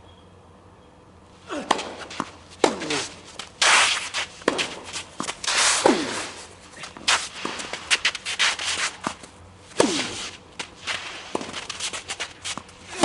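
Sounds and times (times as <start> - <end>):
quick footsteps on court: 1.5 - 13.0
tennis ball strikes and bounces: 1.6 - 13.0.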